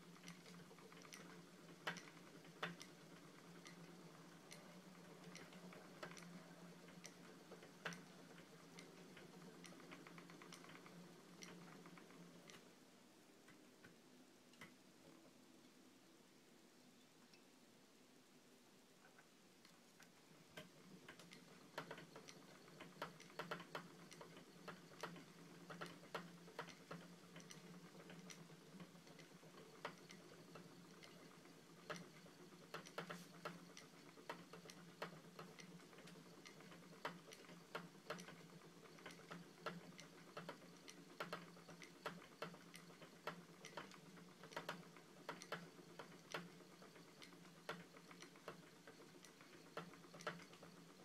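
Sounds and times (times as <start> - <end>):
spinning wheel clicking: 0.0 - 12.7, 20.0 - 51.0.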